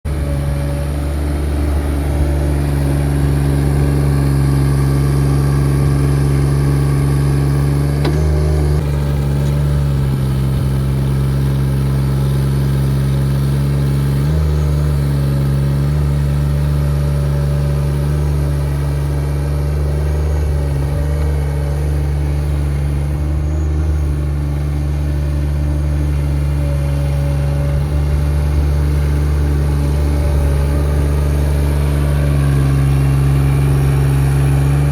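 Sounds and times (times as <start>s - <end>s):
small diesel engine running: 0.0s - 34.9s.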